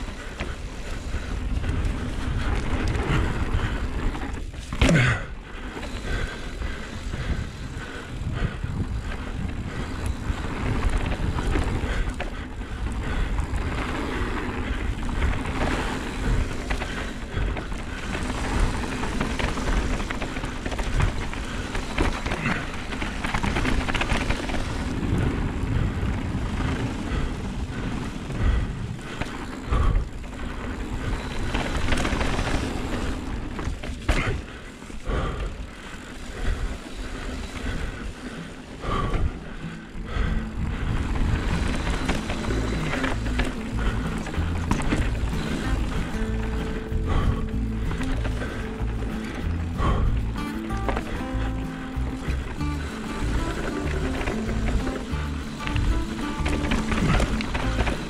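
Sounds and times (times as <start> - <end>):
bike knocking and rattling: 0.0 - 58.0
tyres rolling over dirt and stones: 0.0 - 58.0
wind buffeting microphone: 0.0 - 58.0.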